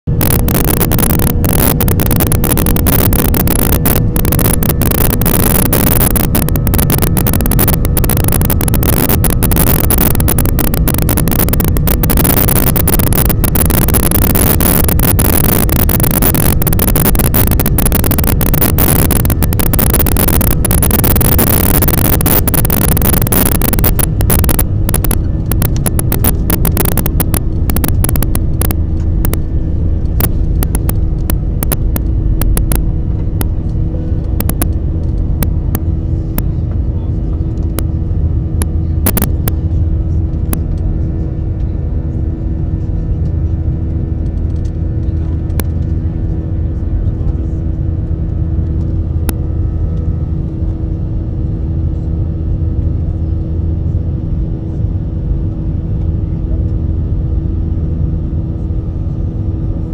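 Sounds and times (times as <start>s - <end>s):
steady cabin hum: 0.1s - 50.5s
jet engines at takeoff power: 0.1s - 59.9s.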